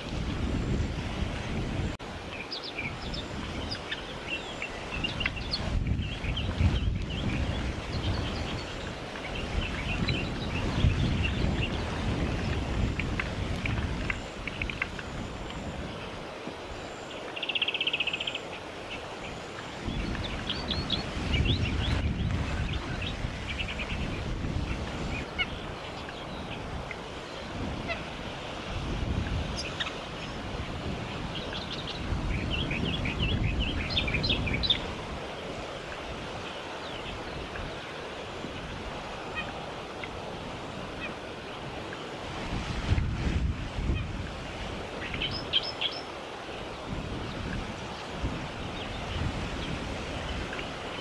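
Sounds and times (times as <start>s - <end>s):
wind gusting on microphone: 0.0s - 17.4s, 18.0s - 51.0s
birds chirping: 0.4s - 28.2s, 29.1s - 42.2s, 43.9s - 51.0s.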